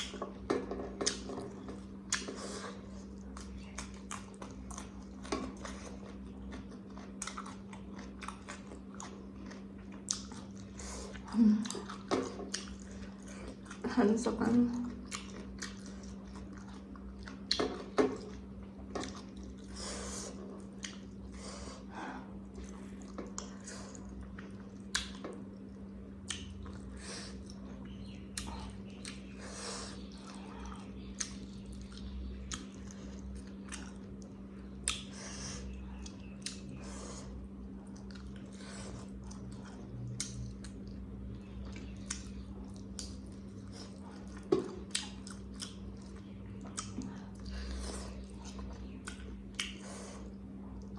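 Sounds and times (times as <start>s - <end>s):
chewing with wet mouth noises: 0.0s - 50.9s
steady low hum: 0.0s - 50.9s.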